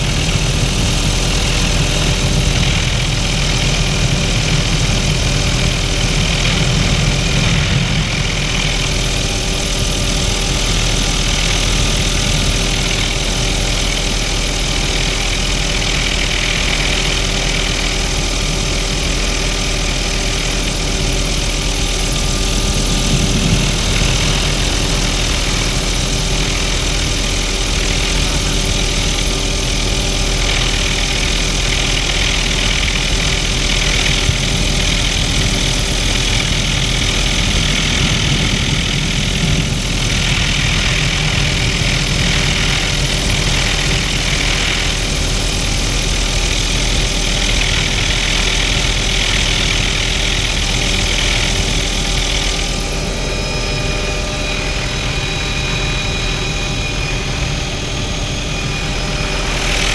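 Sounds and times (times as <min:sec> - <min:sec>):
helicopter turbine and rotor: 0:00.0 - 0:59.9.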